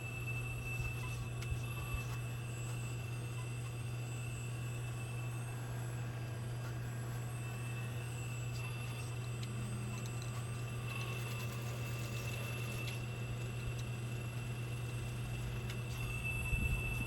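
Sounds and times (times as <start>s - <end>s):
electric pump hum and whine: 0.0s - 17.0s.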